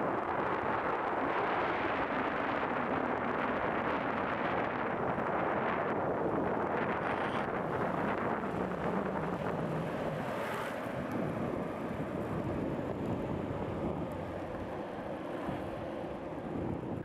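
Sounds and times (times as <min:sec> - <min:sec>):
skateboard wheels rolling on asphalt: 0:00.0 - 0:17.0
wind buffeting microphone: 0:00.0 - 0:17.0.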